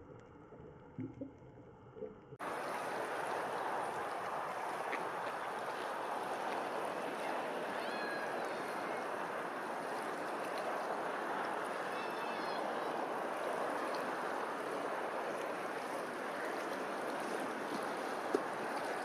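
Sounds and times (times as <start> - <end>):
low underwater ambience: 0.0 - 19.0
water rushing on a lake: 2.4 - 19.0.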